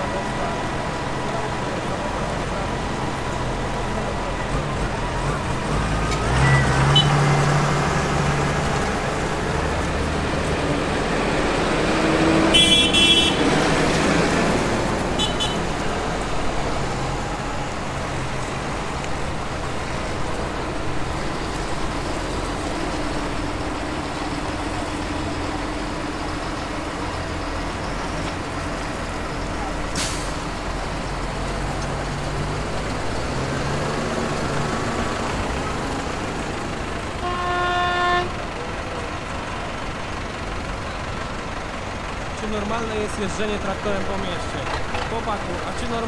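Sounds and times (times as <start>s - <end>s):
tractor diesel engines idling: 0.0s - 46.0s.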